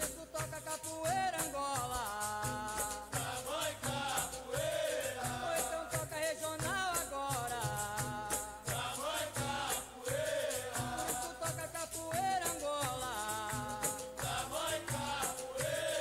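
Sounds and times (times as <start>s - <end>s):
percussion beat: 0.0s - 16.0s
shaken rattle: 0.0s - 16.0s.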